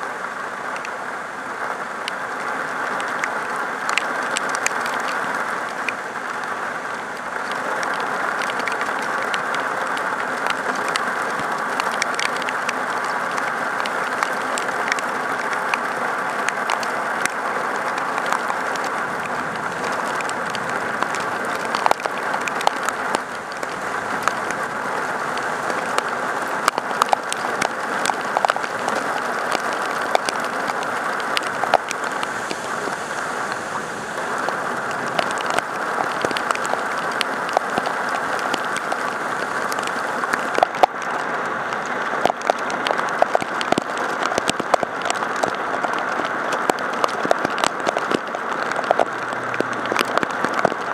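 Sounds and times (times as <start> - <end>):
heavy rain pouring: 0.0 - 50.9
raindrops ticking close by: 0.0 - 50.9.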